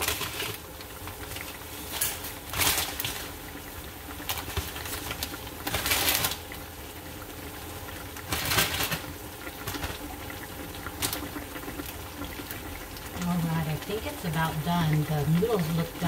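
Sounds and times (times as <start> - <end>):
bubbling and hissing: 0.0 - 16.0
soup simmering in a pan: 0.0 - 16.0.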